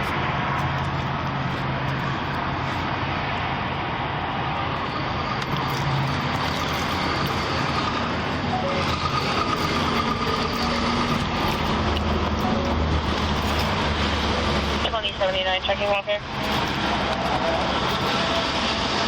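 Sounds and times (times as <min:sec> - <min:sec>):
motor vehicle noise: 0:00.0 - 0:19.0.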